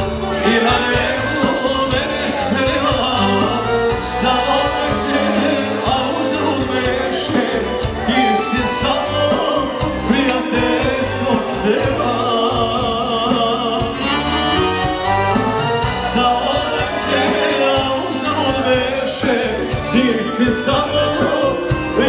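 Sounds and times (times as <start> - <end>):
live folk band music: 0.0 - 22.0.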